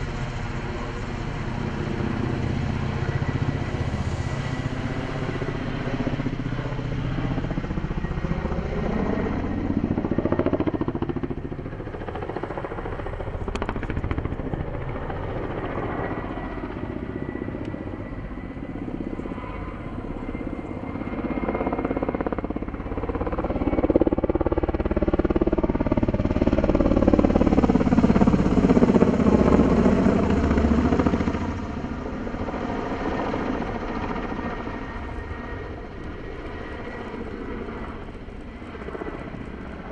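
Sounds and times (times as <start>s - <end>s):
helicopter flying past: 0.0s - 39.9s.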